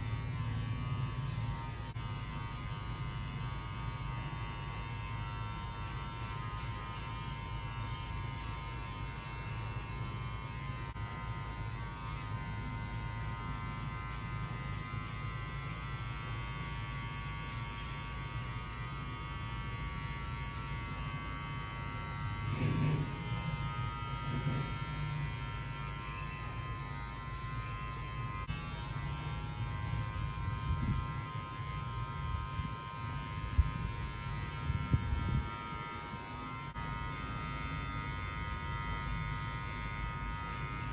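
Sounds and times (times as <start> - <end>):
electric hair clipper buzzing: 0.0 - 40.9.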